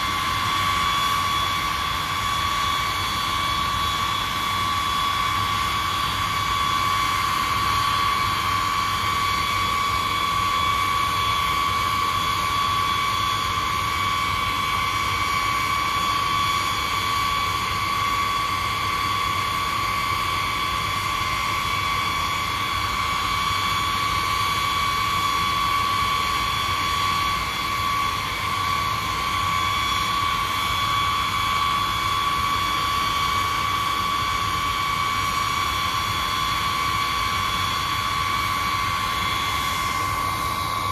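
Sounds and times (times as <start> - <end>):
jet engines idling: 0.0 - 40.9.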